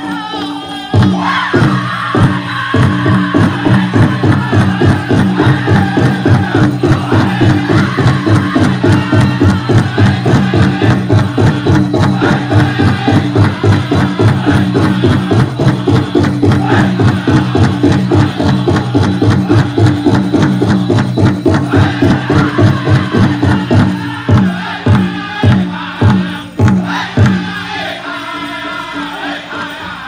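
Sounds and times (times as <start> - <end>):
voices chanting: 0.0 - 30.0
big drum fast beat: 0.9 - 28.6.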